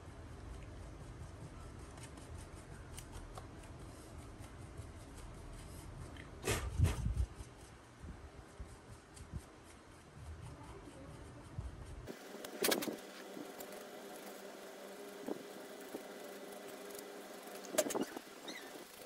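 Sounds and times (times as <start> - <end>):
brush scrubbing fan blades: 0.0 - 19.0.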